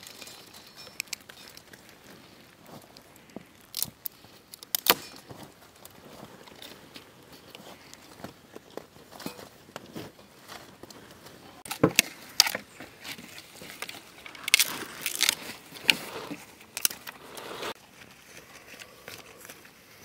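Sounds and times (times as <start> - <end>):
rustling and scraping: 0.0 - 20.0.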